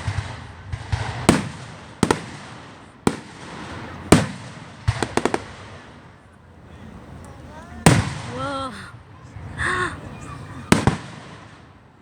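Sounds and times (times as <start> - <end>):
fireworks crackling pops: 0.0 - 8.8, 10.6 - 12.0
fireworks bangs: 0.0 - 12.0.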